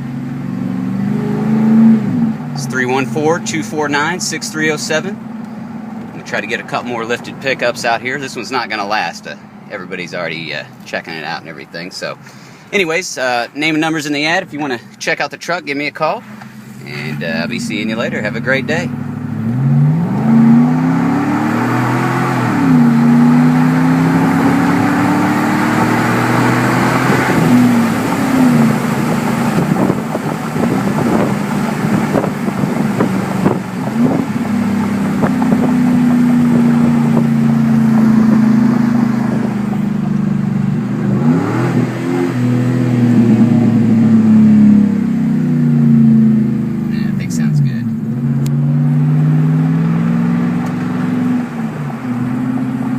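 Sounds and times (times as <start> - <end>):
pickup truck engine revving: 0.0 - 11.4, 16.2 - 52.9.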